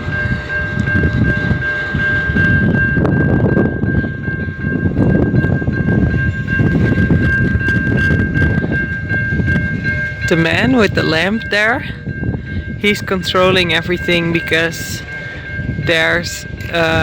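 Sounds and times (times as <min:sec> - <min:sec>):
steady high-pitched squeal: 0:00.0 - 0:17.0
train wagons rumbling: 0:00.0 - 0:17.0.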